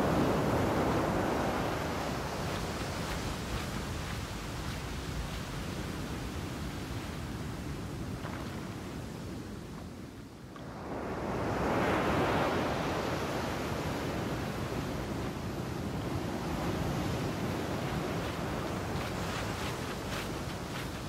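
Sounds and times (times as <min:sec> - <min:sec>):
sea waves rushing: 0:00.0 - 0:07.4, 0:10.6 - 0:21.0
wind: 0:00.0 - 0:21.0.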